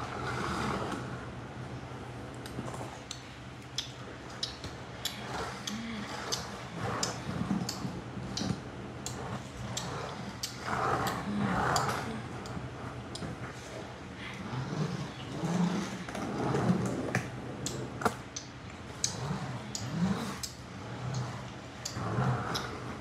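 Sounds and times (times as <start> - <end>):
toy cars clicking on a mat: 2.5 - 23.0.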